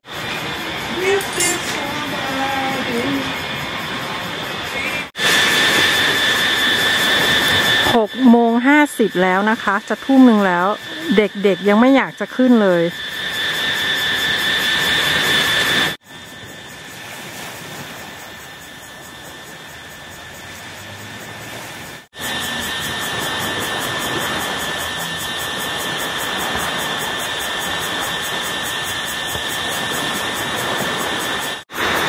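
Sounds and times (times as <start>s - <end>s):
high-pitched whine: 0.1s - 16.9s, 22.2s - 32.0s.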